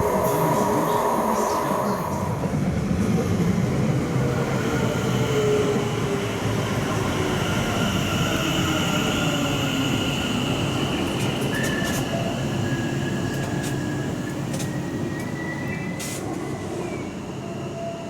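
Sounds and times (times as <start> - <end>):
train wheels rumbling on rails: 0.0 - 17.1.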